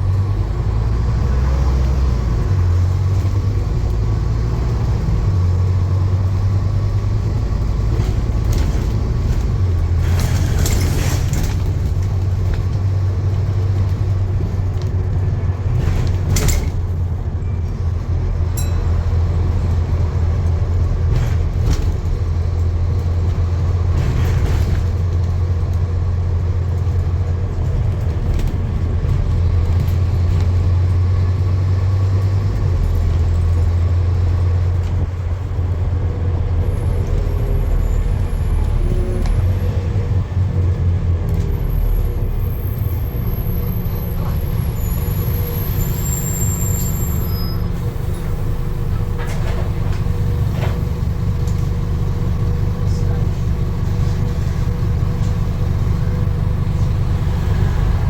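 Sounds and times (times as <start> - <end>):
motor vehicle rumbling: 0.0 - 58.0.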